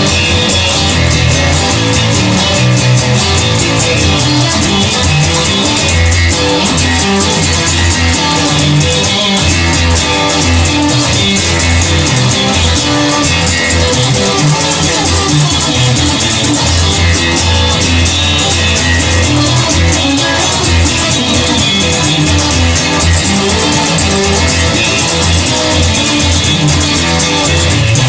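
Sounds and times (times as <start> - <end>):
instrumental rock music: 0.0 - 28.0.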